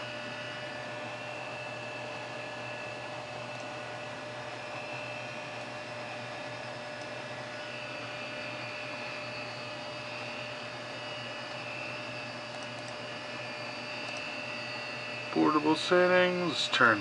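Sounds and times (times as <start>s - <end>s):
faint constant whine: 0.0s - 17.0s
hard drive whirring: 0.0s - 17.0s.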